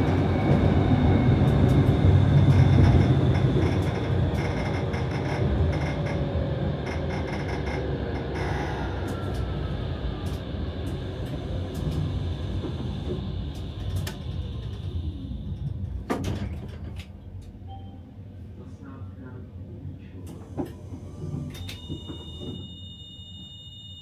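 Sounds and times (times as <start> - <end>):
tram drive whine: 0.0 - 18.7, 20.0 - 24.0
tram rolling rumble on rails: 0.0 - 23.0.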